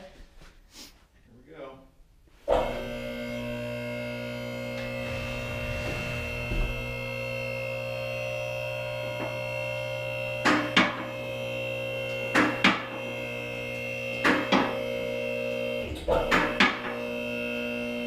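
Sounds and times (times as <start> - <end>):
electric motor humming: 2.5 - 18.0.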